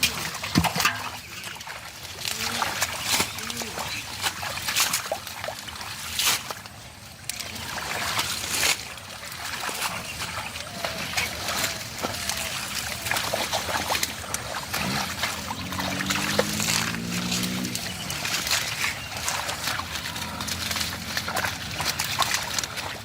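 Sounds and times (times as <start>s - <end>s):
muddy water splashing: 0.0s - 23.0s.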